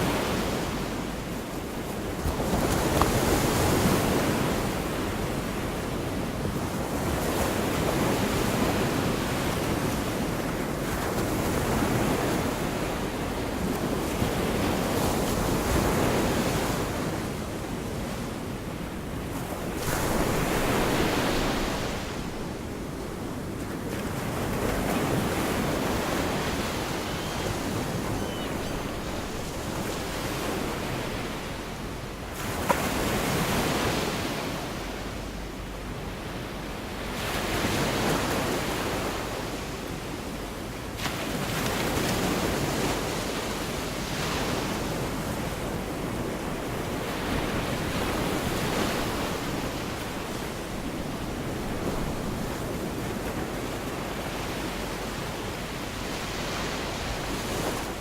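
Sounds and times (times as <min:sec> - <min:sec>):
small waves breaking on beach: 0:00.0 - 0:35.2, 0:40.8 - 0:58.0.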